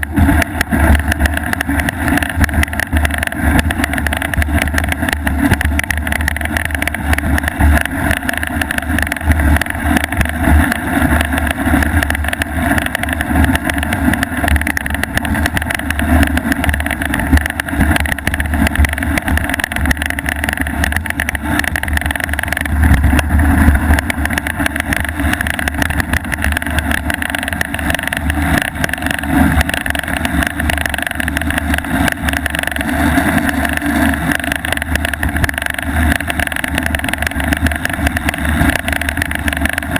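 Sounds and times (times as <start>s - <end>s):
rattling buzz of loose part: 0.0s - 39.9s
wind on microphone: 0.0s - 39.9s.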